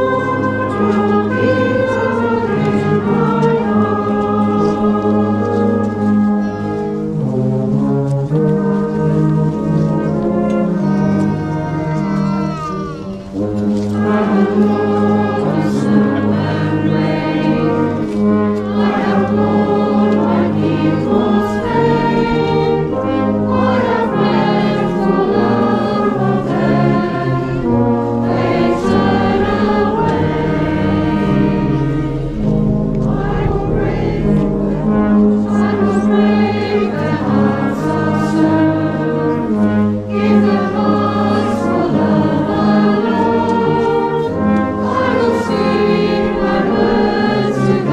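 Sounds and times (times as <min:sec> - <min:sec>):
congregation singing a hymn: 0:00.0 - 0:12.6, 0:13.3 - 0:47.9
brass band playing chords: 0:00.0 - 0:47.9.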